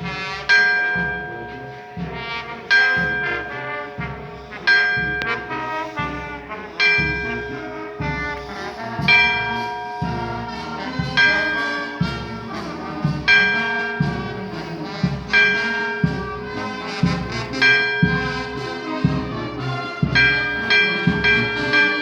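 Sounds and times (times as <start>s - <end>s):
brass band playing slow tune: 0.0s - 22.0s.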